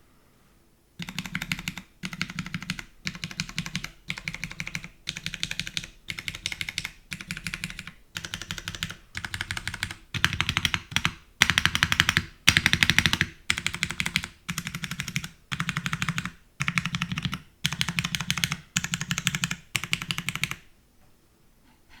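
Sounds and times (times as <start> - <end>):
mechanical keyboard typing: 1.0 - 20.7.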